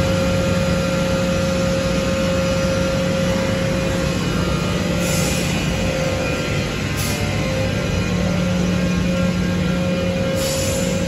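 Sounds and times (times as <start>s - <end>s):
woodworking machinery whirring: 0.0s - 11.0s.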